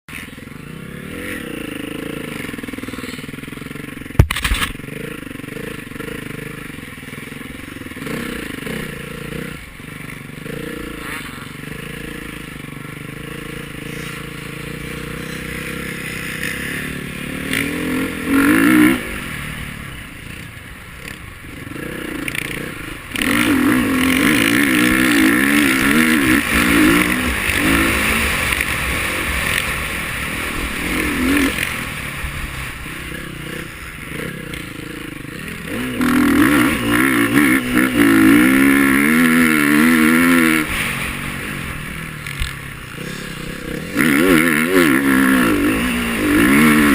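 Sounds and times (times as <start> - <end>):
motorcycle engine revving: 0.1 - 46.9.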